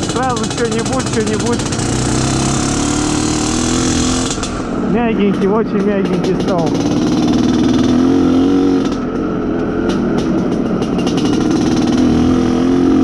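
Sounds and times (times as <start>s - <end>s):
two-stroke motorcycle engine running: 0.0s - 13.0s.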